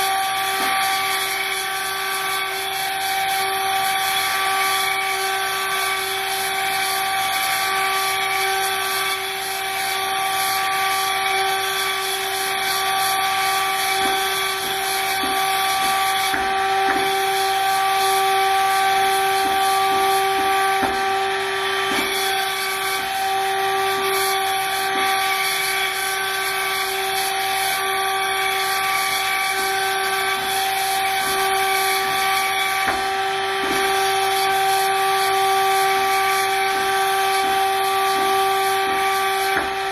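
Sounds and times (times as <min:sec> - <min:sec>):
machining spindle whine: 0:00.0 - 0:39.9.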